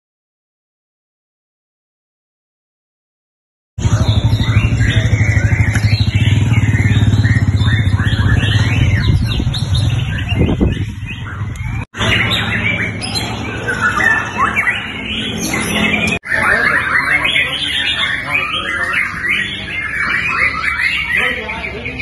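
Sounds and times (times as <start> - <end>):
songbirds singing whistled phrases: 3.8 - 22.0.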